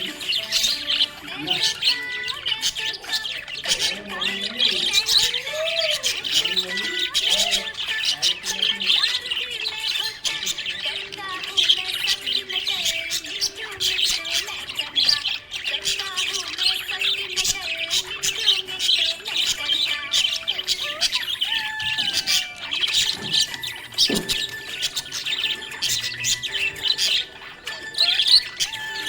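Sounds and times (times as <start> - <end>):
budgerigars chirping: 0.0 - 29.0.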